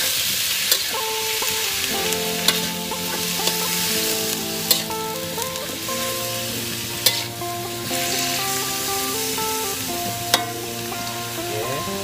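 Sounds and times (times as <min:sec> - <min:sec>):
food sizzling in hot oil: 0:00.0 - 0:11.4.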